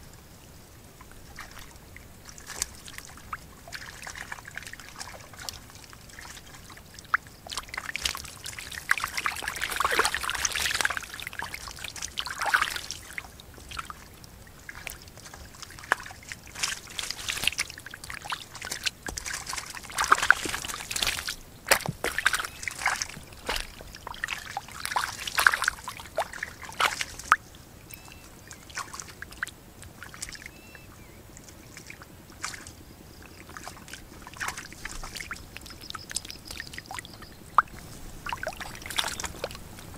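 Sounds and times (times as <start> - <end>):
fish splashing in shallow water: 0.9 - 39.9.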